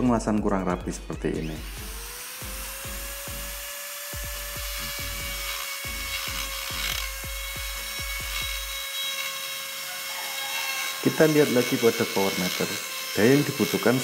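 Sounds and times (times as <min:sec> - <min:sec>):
die grinder whining: 0:00.6 - 0:14.0.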